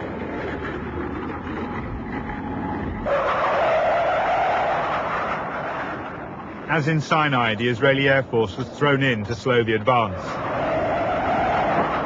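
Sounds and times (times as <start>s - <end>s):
armoured vehicle engine rumbling: 0.0s - 12.0s.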